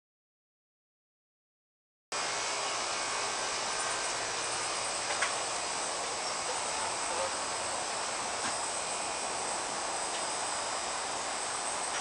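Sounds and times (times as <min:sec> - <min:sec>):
air conditioner buzzing hiss: 0:02.2 - 0:12.0.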